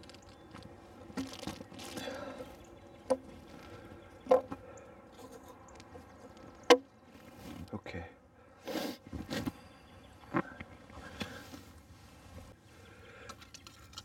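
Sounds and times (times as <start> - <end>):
rustling and scraping: 0.0 - 7.7, 8.7 - 12.6.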